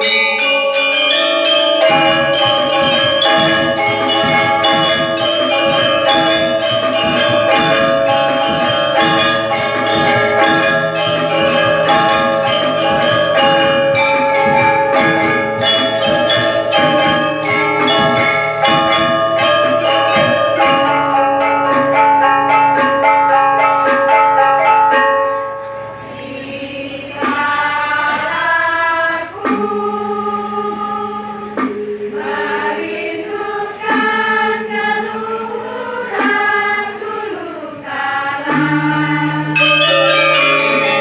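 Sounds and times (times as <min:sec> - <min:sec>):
tuned metal percussion ensemble: 0:00.0 - 0:41.0.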